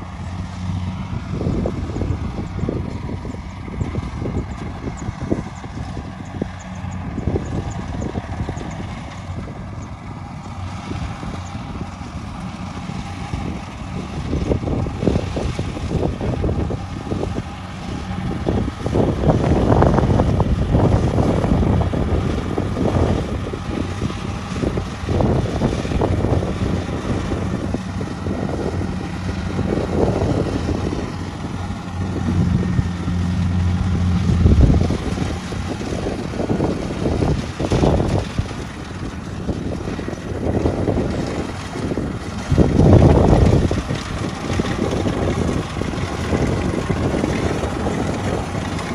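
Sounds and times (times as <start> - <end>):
diesel engine running: 0.0 - 48.9
wind buffeting microphone: 0.0 - 48.9.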